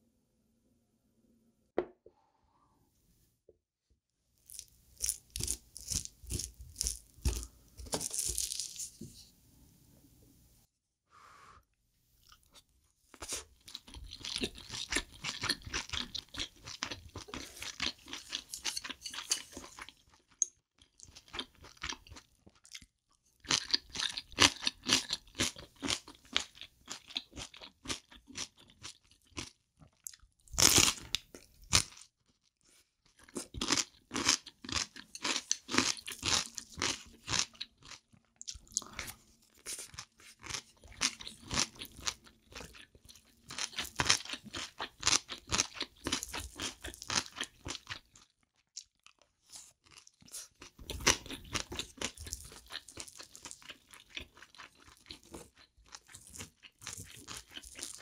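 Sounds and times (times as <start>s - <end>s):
crunchy moist chewing: 4.4s - 8.9s, 12.2s - 58.0s.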